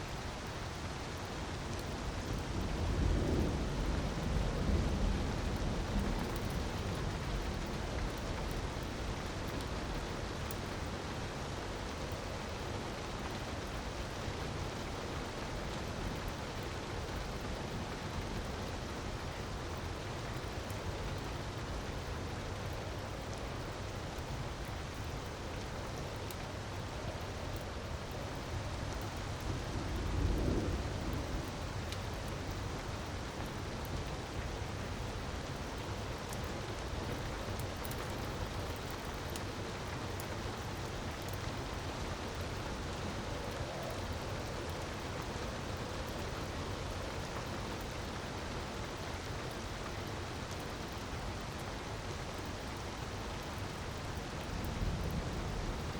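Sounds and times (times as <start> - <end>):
wood fire crackling: 0.1 - 55.9.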